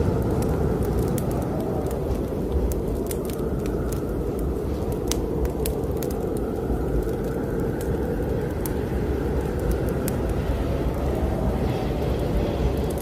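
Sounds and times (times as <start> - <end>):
blizzard wind: 0.0 - 13.0
fireplace fire crackling: 0.0 - 13.0.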